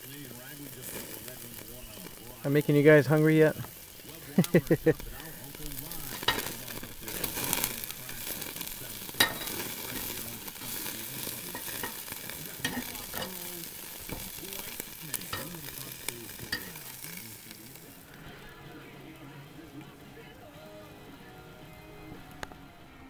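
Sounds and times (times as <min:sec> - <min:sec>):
meat sizzling on a grill: 0:00.0 - 0:22.9
grill crackles and pops: 0:00.0 - 0:23.0.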